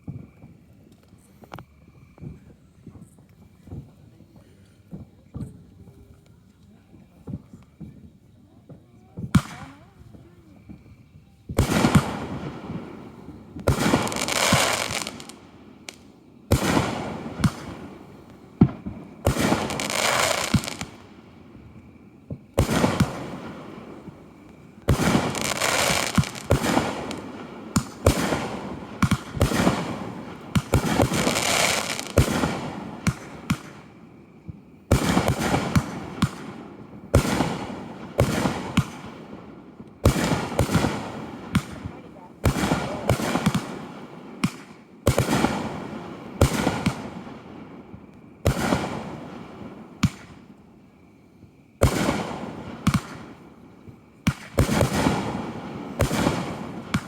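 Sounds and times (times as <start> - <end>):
fireworks crackling and hissing: 0.0 - 57.0
fireworks bangs: 6.9 - 50.6, 51.4 - 57.0.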